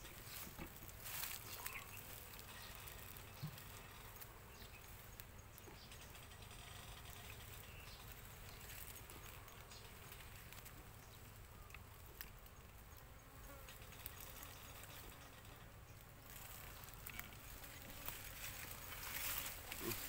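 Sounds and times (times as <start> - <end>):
faint buzzing of bees: 0.0 - 20.0.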